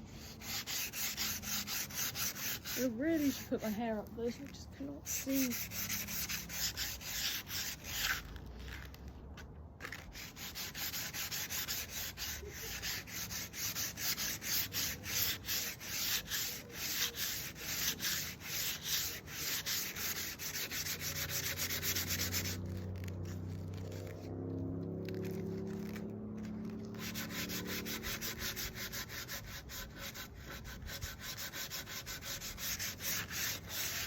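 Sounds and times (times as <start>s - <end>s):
sandpaper rubbing on wood: 0.0s - 8.9s, 9.8s - 24.3s, 25.0s - 26.0s, 26.7s - 34.0s.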